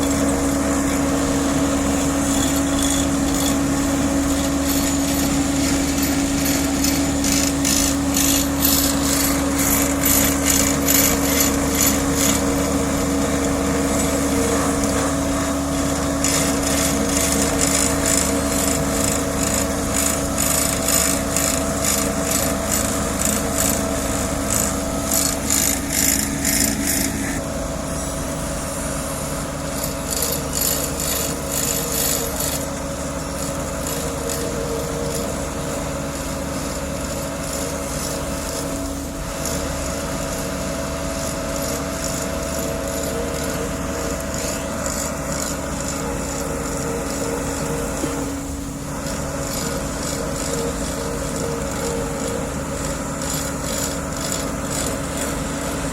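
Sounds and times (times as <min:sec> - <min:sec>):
diesel engine running: 0:00.0 - 0:55.9
rasping scraping strokes: 0:00.0 - 0:55.9.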